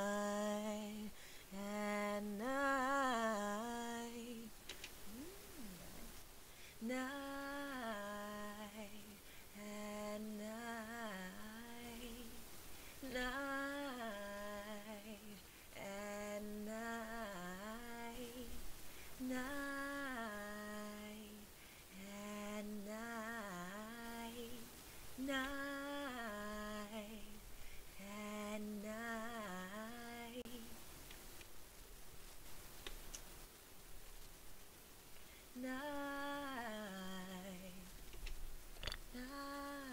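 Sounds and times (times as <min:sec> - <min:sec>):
woman singing held notes: 0:00.0 - 0:30.8, 0:35.3 - 0:38.0, 0:38.8 - 0:39.9.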